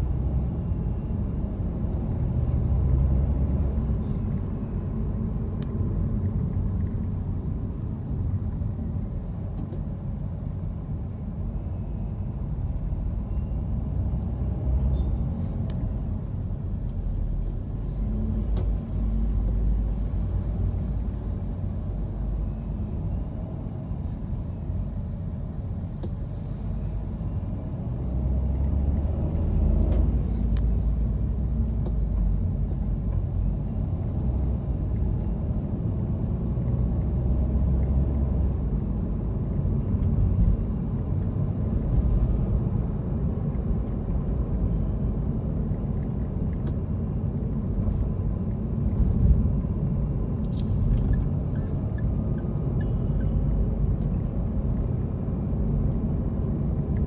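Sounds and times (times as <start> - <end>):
engine and tyre rumble in car: 0.0 - 57.0.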